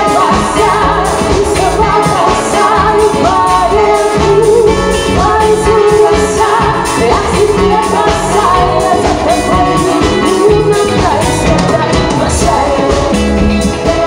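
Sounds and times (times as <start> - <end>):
bass: 0.0 - 14.0
drums steady beat: 0.0 - 14.0
electric guitar: 0.0 - 14.0
woman singing lead vocal: 0.0 - 14.0.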